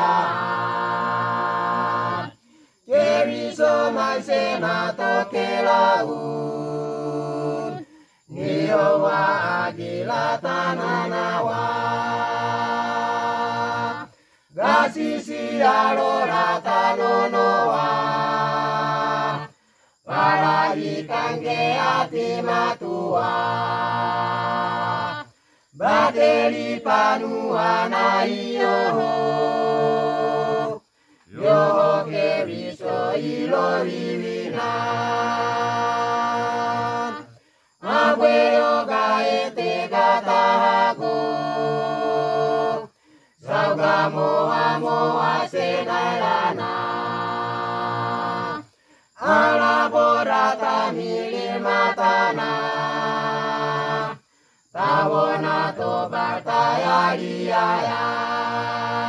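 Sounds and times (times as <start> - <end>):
choir singing a cappella: 0.0 - 59.0.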